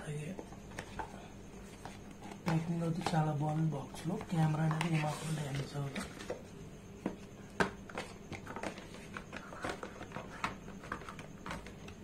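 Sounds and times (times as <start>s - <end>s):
cardboard rustling: 0.6s - 12.0s.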